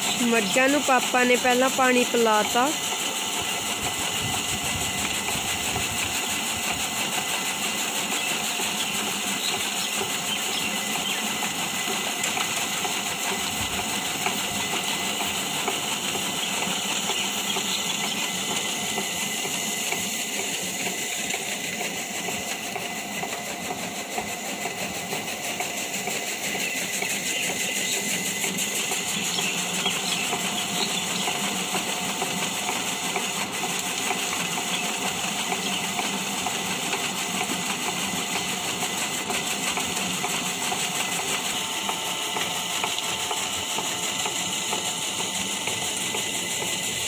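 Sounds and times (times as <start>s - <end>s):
machine motor whirring: 0.0s - 47.0s.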